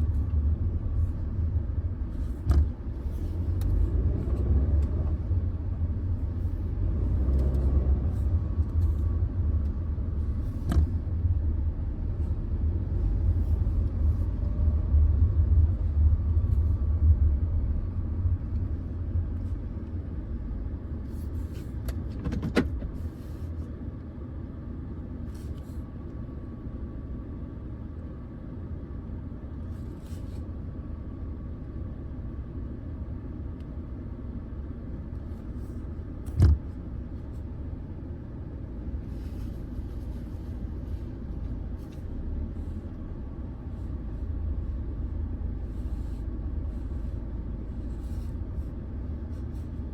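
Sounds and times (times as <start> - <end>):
car engine rumbling: 0.0 - 49.9.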